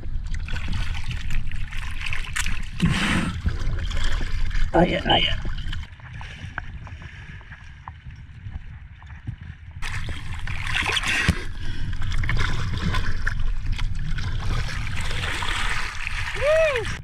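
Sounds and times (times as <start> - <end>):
seawater sloshing and splashing: 0.0 - 17.0.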